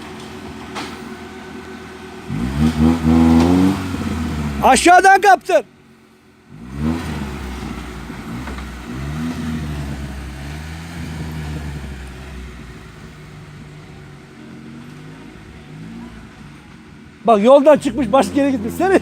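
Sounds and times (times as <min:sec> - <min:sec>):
vehicle engine revving: 0:00.0 - 0:19.0.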